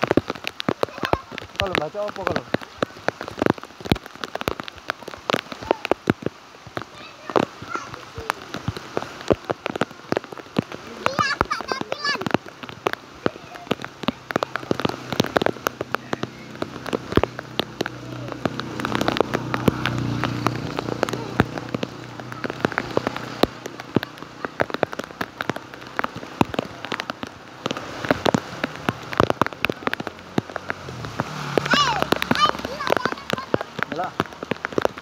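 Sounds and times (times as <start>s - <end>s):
rain drops hitting close by: 0.0s - 35.0s
steady hiss of rain: 0.0s - 35.0s.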